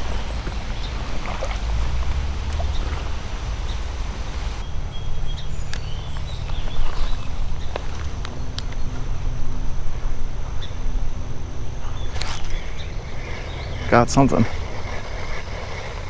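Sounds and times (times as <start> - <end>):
high background hiss: 0.0 - 16.0
wind and water rumble: 0.0 - 16.0.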